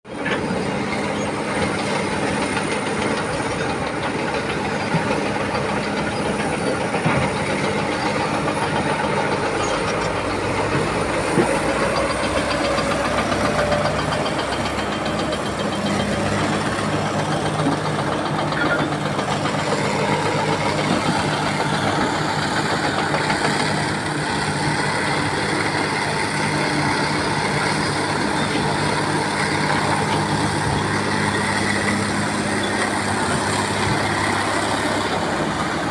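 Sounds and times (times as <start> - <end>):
heavy diesel engines running: 0.1 - 35.9.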